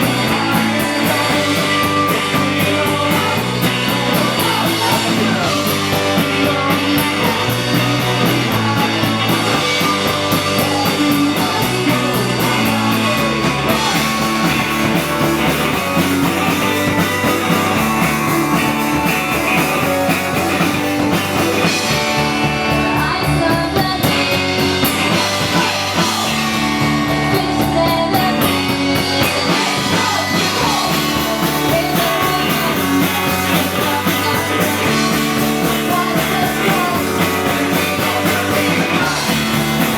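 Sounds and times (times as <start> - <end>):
rock music with guitar and singing: 0.0 - 39.9.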